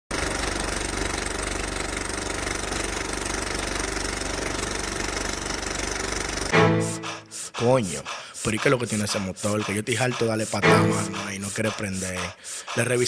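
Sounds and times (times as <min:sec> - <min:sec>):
small engine idling: 0:00.1 - 0:13.0.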